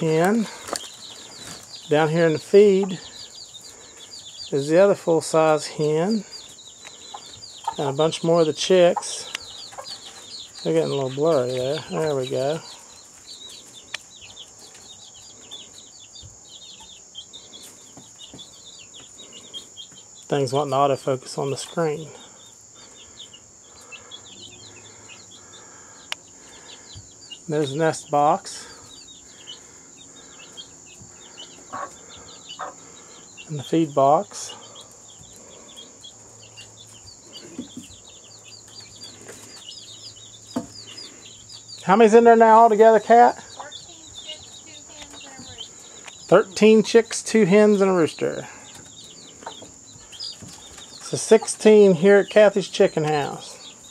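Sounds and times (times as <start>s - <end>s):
baby chicks peeping: 0.0s - 53.9s.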